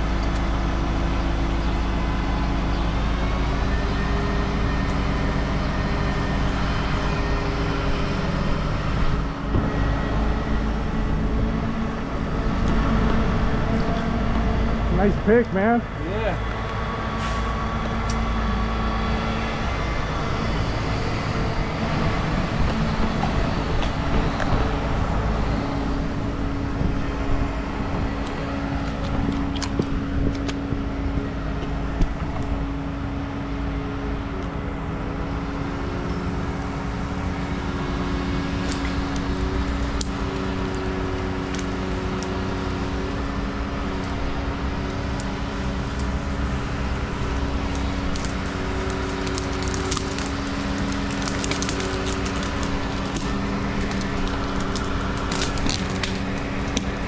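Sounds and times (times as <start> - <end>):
crane engine humming: 0.0 - 57.0.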